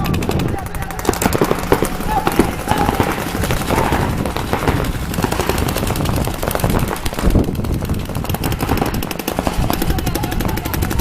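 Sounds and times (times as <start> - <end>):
rapid dense popping: 0.0 - 11.0.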